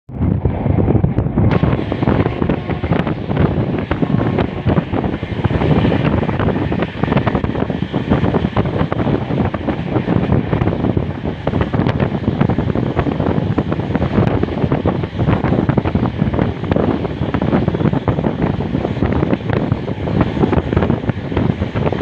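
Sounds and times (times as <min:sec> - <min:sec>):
wind buffeting microphone: 0:00.1 - 0:22.0.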